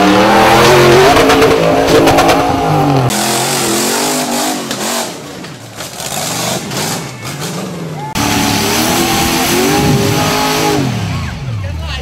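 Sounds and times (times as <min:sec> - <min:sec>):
buggy engines revving: 0:00.0 - 0:12.0.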